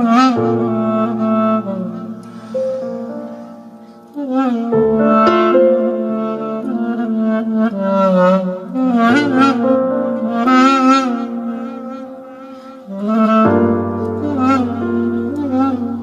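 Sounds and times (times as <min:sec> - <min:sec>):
slow wavering wind instrument melody: 0:00.0 - 0:16.0.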